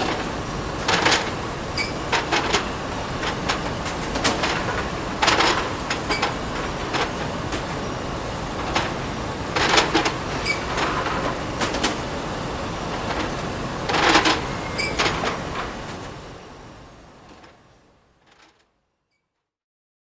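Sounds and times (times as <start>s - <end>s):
machinery clacking: 0.0s - 16.3s.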